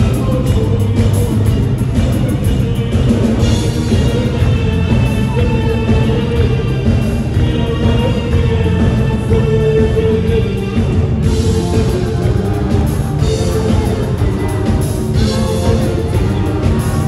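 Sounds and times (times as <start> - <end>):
man singing into a microphone: 0.0 - 14.4
live pop dance band: 0.0 - 17.0.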